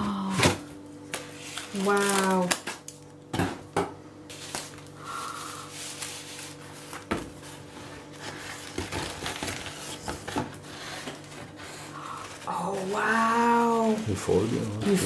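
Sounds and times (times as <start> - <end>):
cardboard and paper rustling: 0.3 - 2.6, 4.3 - 15.0.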